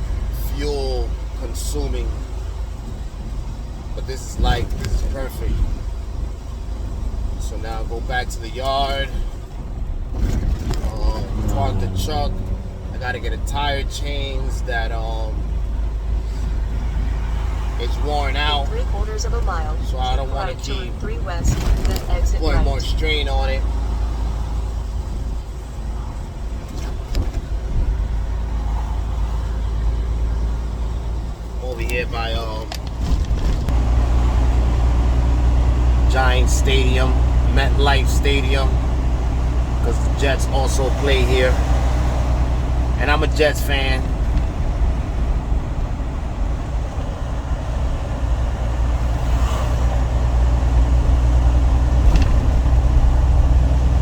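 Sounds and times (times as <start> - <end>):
truck engine and road drone: 0.0 - 54.0.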